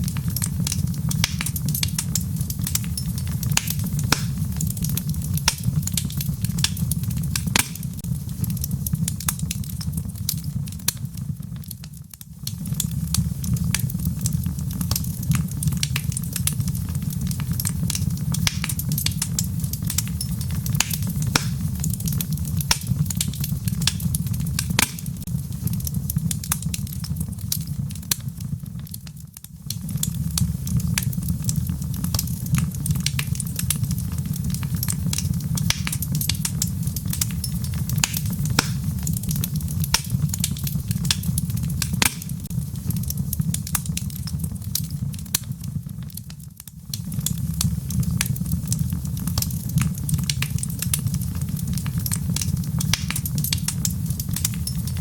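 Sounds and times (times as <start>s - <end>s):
rain pattering: 0.0s - 55.0s
wood fire crackling: 0.0s - 55.0s.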